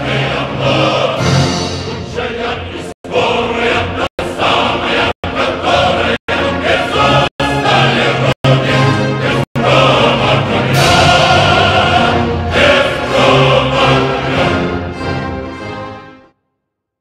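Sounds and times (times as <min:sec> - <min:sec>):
choir singing sustained notes: 0:00.0 - 0:16.4.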